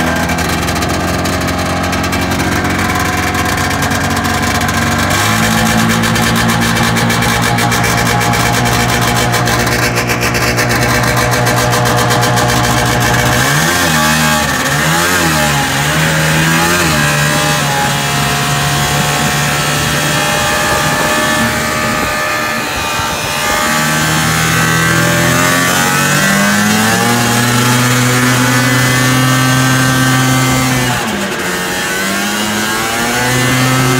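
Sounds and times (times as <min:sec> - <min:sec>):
snowmobile engine revving: 0:00.0 - 0:33.9.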